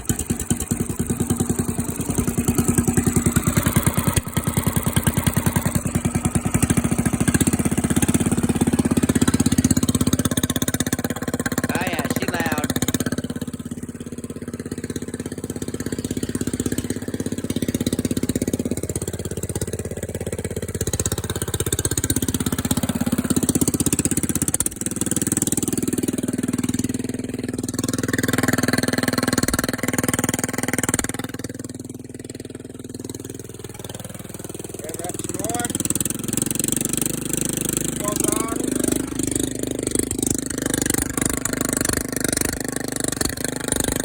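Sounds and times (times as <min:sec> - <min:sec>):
loud diesel engine running: 0:00.0 - 0:44.0.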